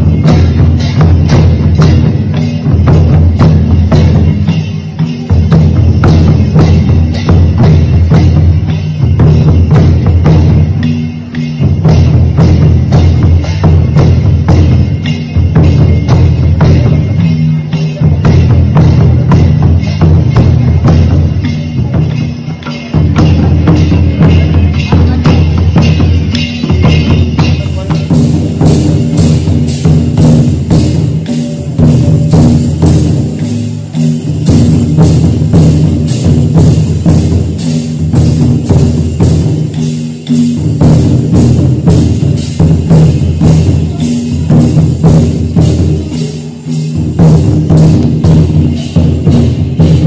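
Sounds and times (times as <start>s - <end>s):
hand drums in fast rhythm: 0.0s - 50.0s.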